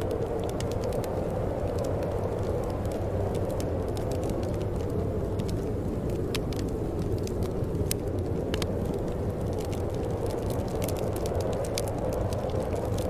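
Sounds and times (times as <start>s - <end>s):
fire crackling and popping: 0.0s - 13.0s
fire rumbling in a fireplace: 0.0s - 13.0s.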